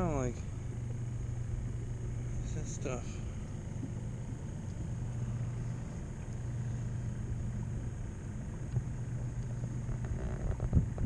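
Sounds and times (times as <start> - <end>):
faint high whine: 0.0 - 11.0
low machine hum: 0.0 - 11.0.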